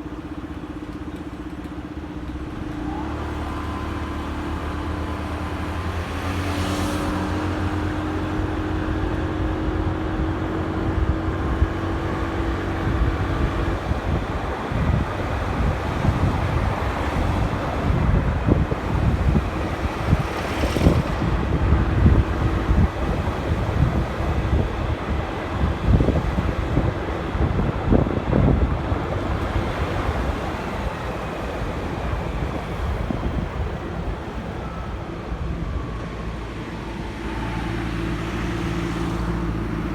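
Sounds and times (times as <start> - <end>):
road noise: 0.0 - 39.9
wind buffeting microphone: 4.5 - 39.9.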